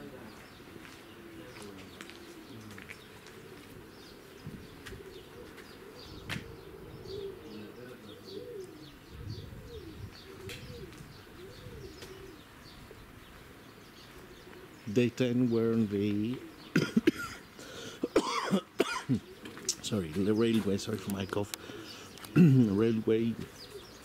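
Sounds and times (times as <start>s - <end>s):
birds cooing: 0.0s - 24.0s.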